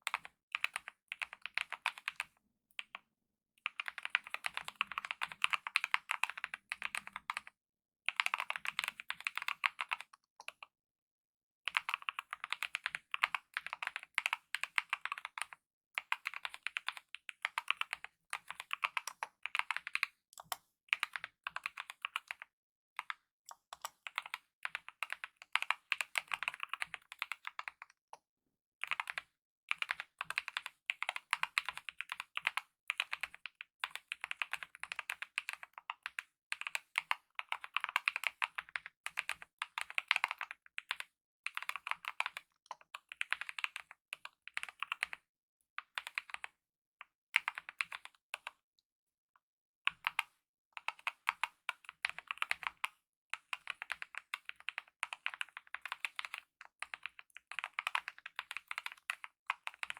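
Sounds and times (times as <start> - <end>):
mechanical keyboard typing: 0.0 - 2.3, 3.7 - 7.5, 8.1 - 10.6, 11.7 - 22.4, 23.5 - 27.8, 28.8 - 45.2, 47.4 - 48.5, 49.9 - 59.9.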